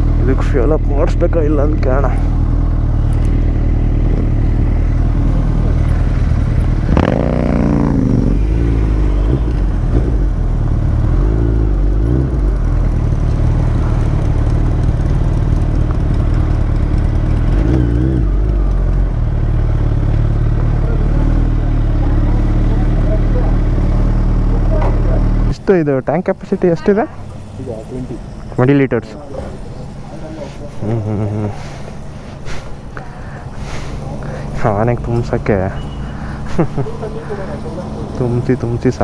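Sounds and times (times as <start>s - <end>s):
motorcycle engine idling: 0.0s - 25.6s, 29.2s - 39.0s.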